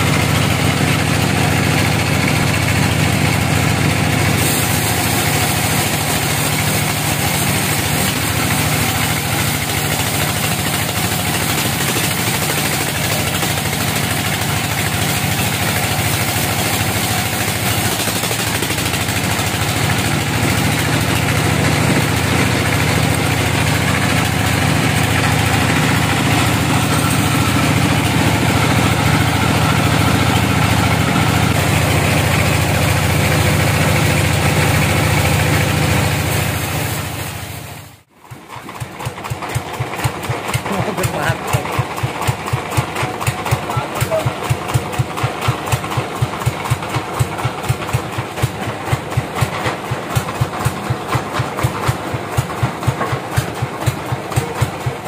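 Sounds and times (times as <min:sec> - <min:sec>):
band saw sawing a log: 0:00.0 - 0:37.4, 0:38.1 - 0:55.0.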